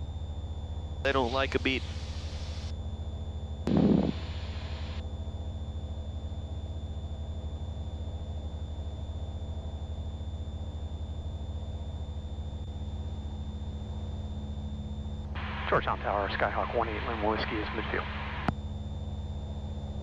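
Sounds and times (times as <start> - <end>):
aircraft engine drone in cockpit: 0.0 - 20.0.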